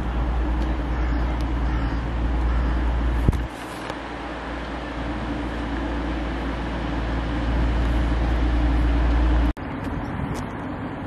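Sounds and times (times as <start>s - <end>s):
train engine rumble: 0.0s - 11.0s
wheel and rail noise: 0.0s - 11.0s.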